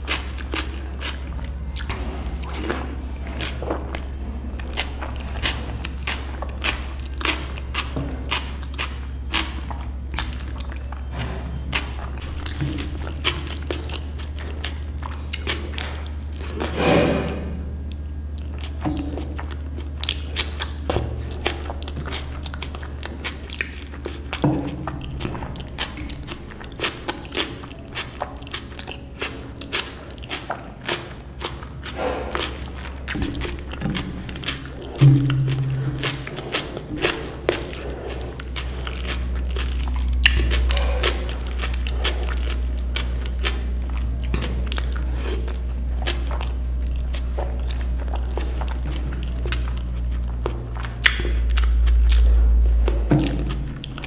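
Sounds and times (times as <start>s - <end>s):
chewing and wet mouth clicks: 0.0s - 16.8s, 17.9s - 54.0s
steady low hum: 0.0s - 54.0s.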